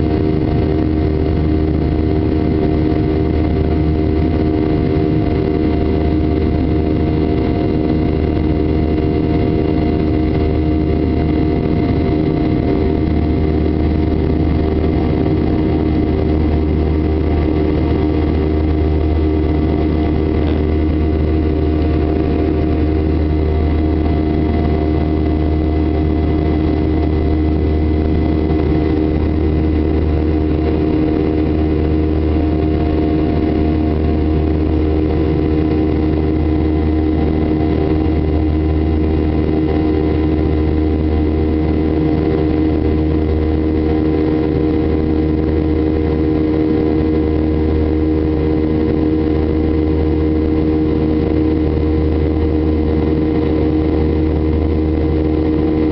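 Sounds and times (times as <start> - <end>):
jet engines droning: 0.0 - 55.9.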